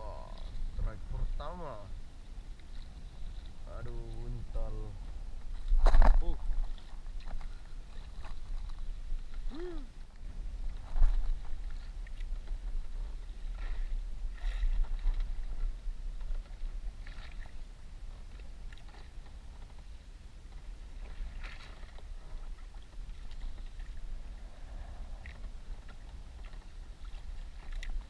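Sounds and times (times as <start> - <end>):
waves slapping against boat: 0.0 - 28.0.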